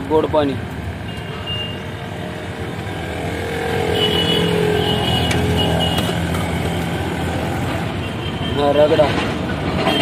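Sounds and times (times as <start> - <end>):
vehicle engine humming: 0.0 - 8.2.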